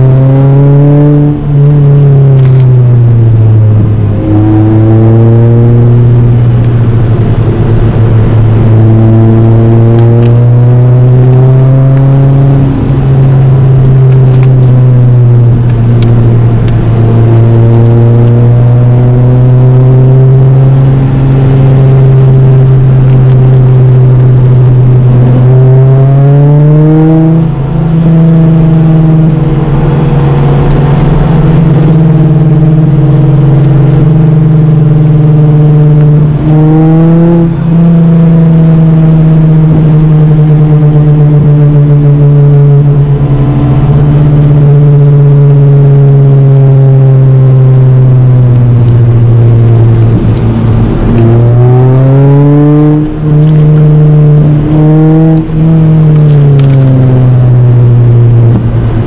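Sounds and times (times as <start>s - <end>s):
car engine pulling hard: 0.0s - 59.0s
road noise: 0.0s - 59.0s.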